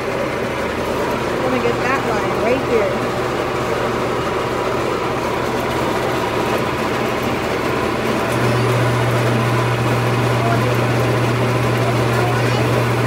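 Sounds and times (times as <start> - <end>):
vending machine mechanical hum: 0.0 - 13.0.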